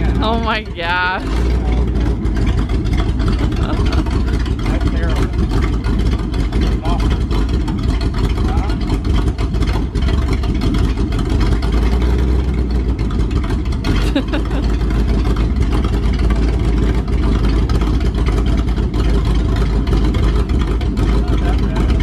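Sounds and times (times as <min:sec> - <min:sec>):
pickup engine deep exhaust rumble: 0:00.0 - 0:22.0.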